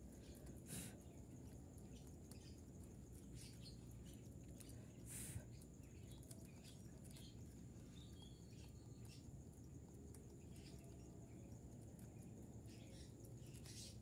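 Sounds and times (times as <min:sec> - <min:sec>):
rabbits chewing a plant stalk: 0:00.0 - 0:14.0
faint high chirp: 0:01.8 - 0:14.0.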